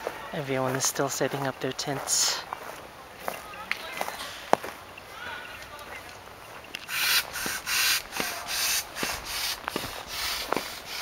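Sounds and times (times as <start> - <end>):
footsteps crunching on gritty ground: 0.0 - 11.0.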